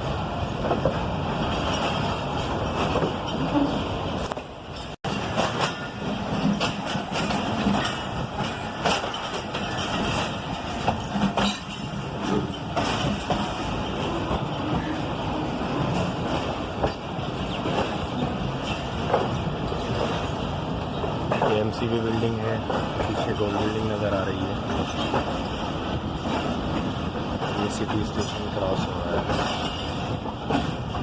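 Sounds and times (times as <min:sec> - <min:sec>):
train rumbling on rails: 0:00.0 - 0:31.0
wheels clacking over rail joints: 0:00.0 - 0:31.0.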